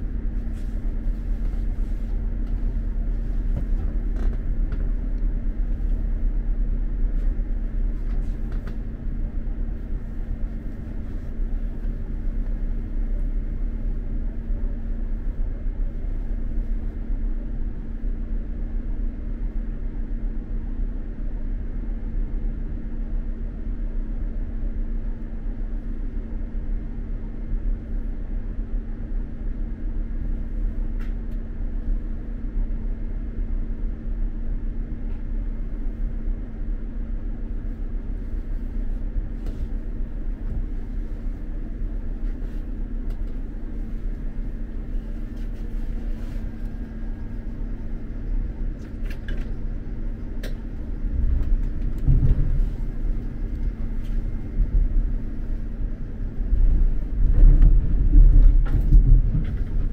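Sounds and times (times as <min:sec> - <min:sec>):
train rumbling inside carriage: 0:00.0 - 0:59.9.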